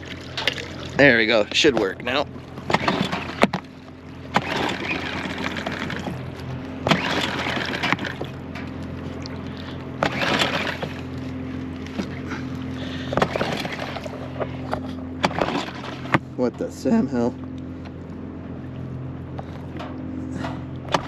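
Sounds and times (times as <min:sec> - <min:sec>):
outboard motor pull-starting: 0:00.0 - 0:18.0, 0:19.3 - 0:21.0
steady low hum: 0:00.0 - 0:21.0.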